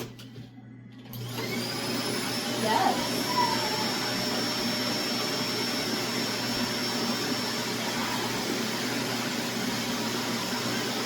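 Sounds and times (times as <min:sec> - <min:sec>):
vacuum cleaner running: 0:01.1 - 0:11.0.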